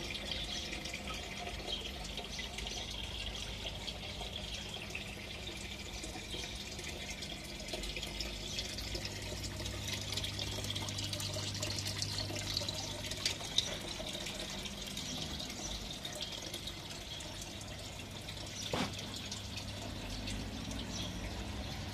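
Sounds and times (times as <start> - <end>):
water trickling and dripping: 0.0 - 21.9
low steady hum: 0.1 - 21.9.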